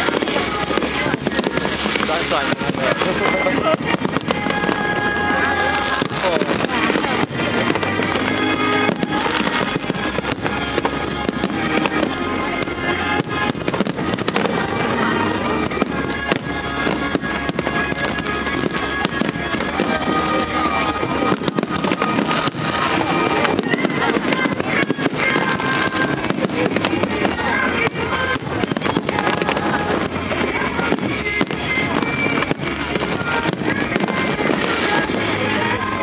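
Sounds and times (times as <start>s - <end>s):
fireworks bangs and crackles: 0.0s - 36.0s
music playing: 0.0s - 36.0s.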